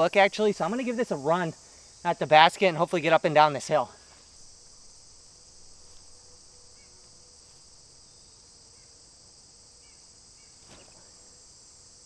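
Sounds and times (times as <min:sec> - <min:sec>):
high-pitched insect chorus drone: 0:00.0 - 0:12.0.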